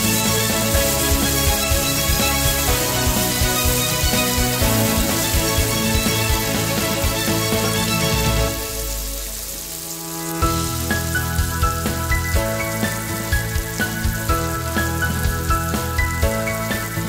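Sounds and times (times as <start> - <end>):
background music with beat: 0.0 - 17.0
food sizzling in hot oil: 0.0 - 17.0.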